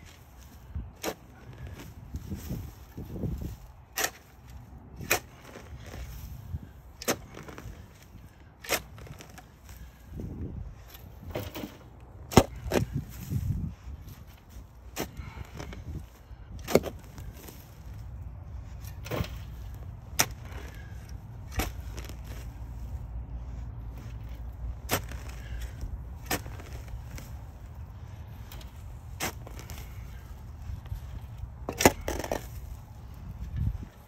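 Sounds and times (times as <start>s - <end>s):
shovel chopping into soil: 0.0s - 10.2s, 10.8s - 18.0s, 18.6s - 22.9s, 24.0s - 27.6s, 28.4s - 33.8s
low steady rumble: 0.0s - 34.0s.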